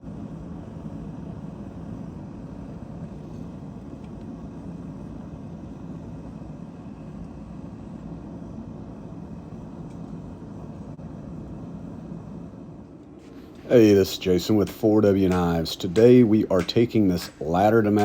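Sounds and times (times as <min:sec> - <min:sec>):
faint hum: 0:00.0 - 0:18.0.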